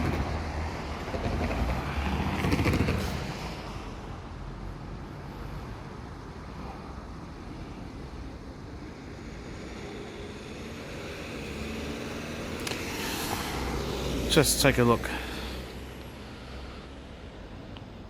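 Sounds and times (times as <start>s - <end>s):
vehicle engines: 0.0s - 18.0s.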